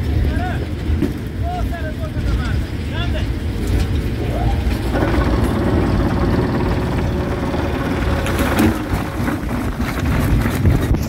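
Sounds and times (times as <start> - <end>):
rock crusher engine drone: 0.0 - 11.0
steady whine: 1.8 - 11.0.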